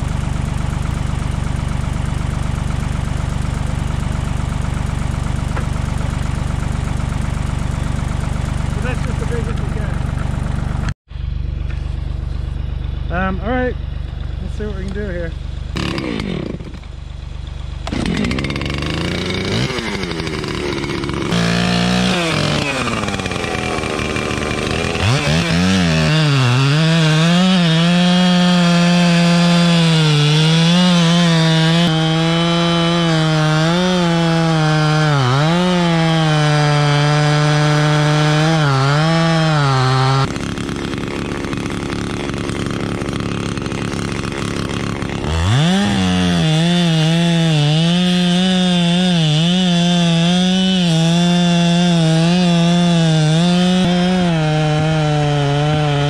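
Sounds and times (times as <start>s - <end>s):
chainsaw cutting log: 0.0s - 10.9s, 14.6s - 56.0s.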